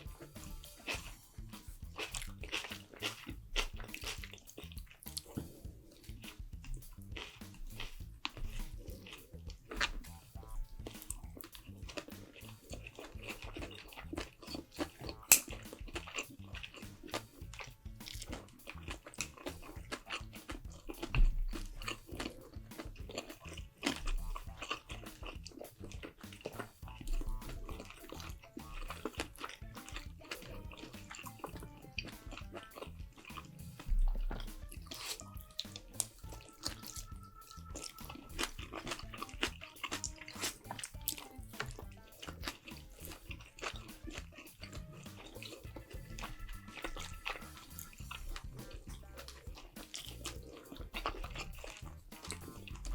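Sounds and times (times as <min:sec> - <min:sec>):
background music: 0:00.0 - 0:52.9
chewing and crunching: 0:00.0 - 0:52.9
dull low thumps: 0:00.0 - 0:52.9.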